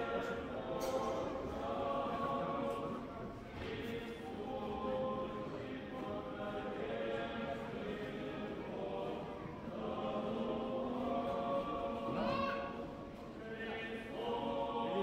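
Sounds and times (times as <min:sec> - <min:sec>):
choir singing a chant: 0:00.0 - 0:15.0.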